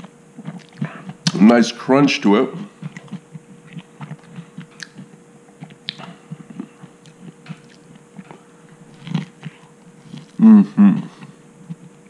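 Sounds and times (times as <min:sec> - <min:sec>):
mouth chewing a sandwich: 0:00.0 - 0:01.5, 0:02.5 - 0:12.0
vegetables crunching: 0:00.0 - 0:12.0.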